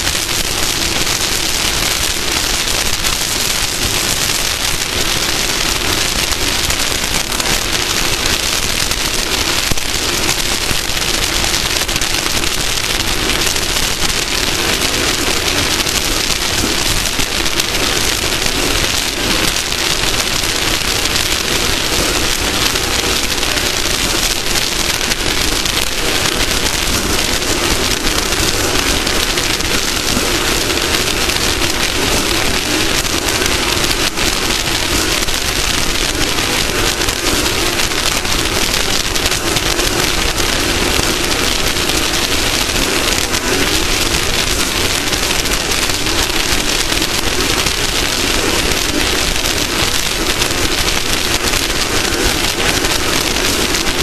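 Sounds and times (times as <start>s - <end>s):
rush of wind and terrain noise: 0.0s - 54.0s.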